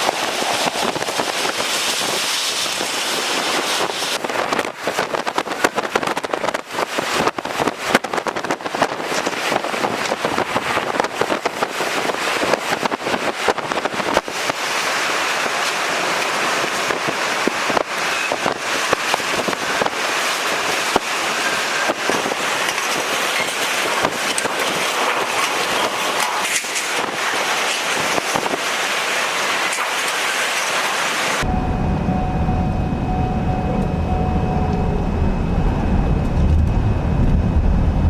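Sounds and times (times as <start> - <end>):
driving rain: 0.0 - 38.0
strong wind: 0.0 - 38.0.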